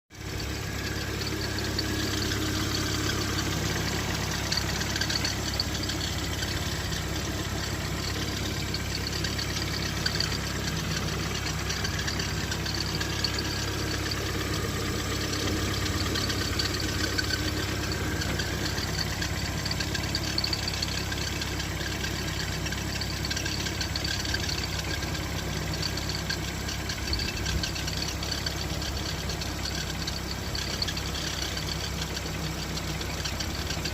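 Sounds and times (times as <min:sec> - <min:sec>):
engine idling: 0:00.1 - 0:33.9.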